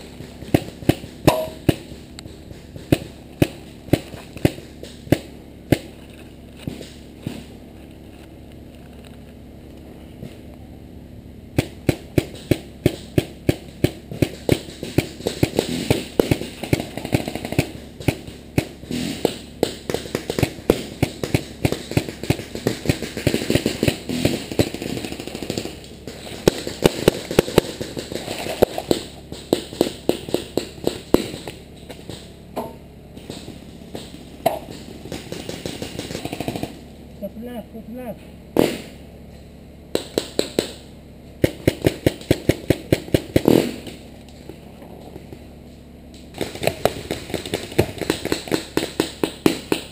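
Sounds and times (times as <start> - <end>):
paintball markers firing: 0.2 - 7.5, 11.6 - 36.8, 38.6 - 39.0, 39.9 - 44.0, 46.2 - 49.9.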